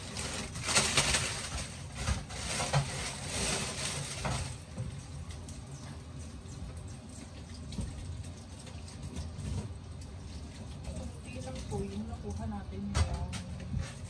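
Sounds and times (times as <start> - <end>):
plastic packaging rustle: 0.0 - 14.0.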